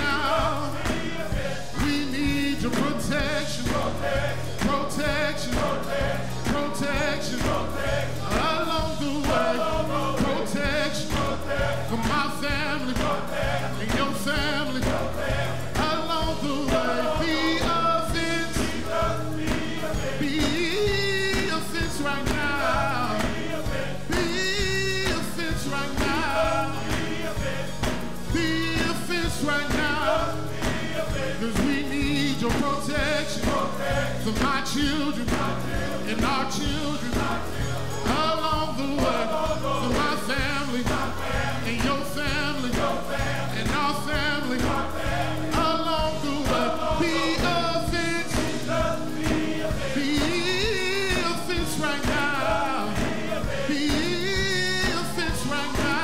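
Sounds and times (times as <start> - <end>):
man singing into microphone: 0.0 - 15.2, 15.8 - 30.7, 31.4 - 56.0
hands clapping: 0.0 - 56.0
instrumental accompaniment with beat: 0.0 - 56.0
male chorus singing: 0.0 - 56.0.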